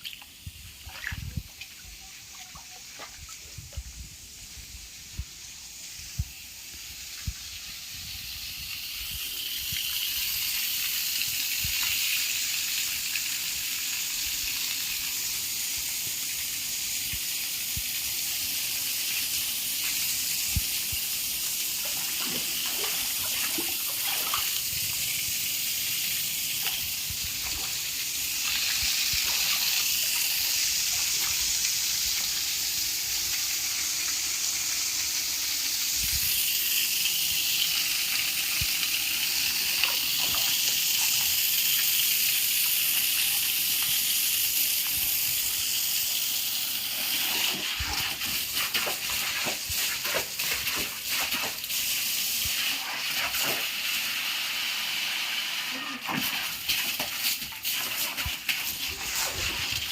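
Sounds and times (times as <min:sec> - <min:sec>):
water gushing: 0:00.0 - 0:59.9.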